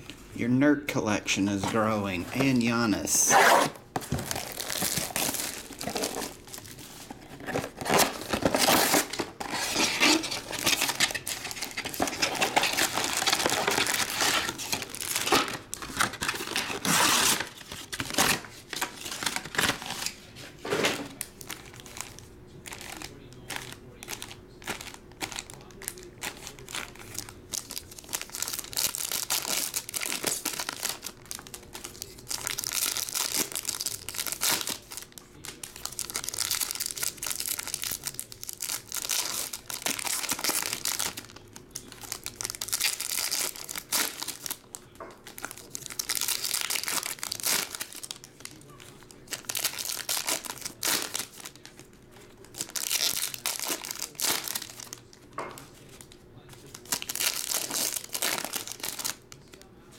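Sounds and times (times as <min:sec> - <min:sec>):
plastic wrappers crinkling and tearing: 0:01.4 - 0:59.9.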